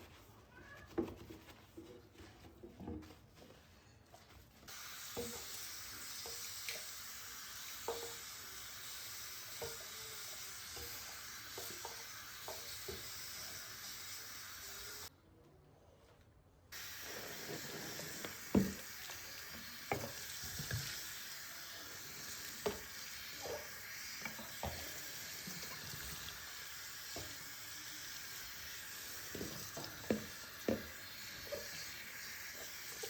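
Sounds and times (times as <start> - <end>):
food sizzling in a frying pan: 4.7 - 15.1, 16.8 - 33.0.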